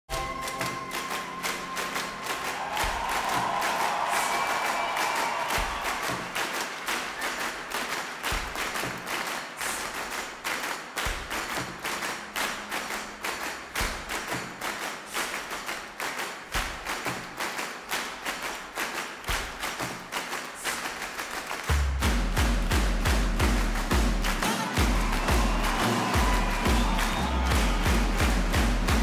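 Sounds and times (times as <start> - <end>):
rhythmic clapping along: 0.1 - 29.0.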